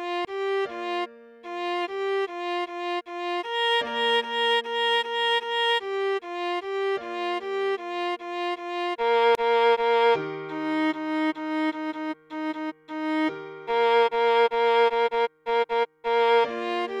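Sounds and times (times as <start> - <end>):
viola melody of short notes: 0.0 - 17.0.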